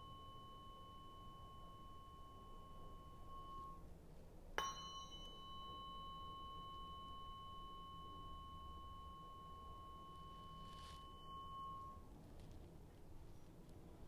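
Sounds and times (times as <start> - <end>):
tuning fork strike click: 0.0 - 3.8, 4.6 - 12.0
tuning fork ringing: 0.0 - 14.0.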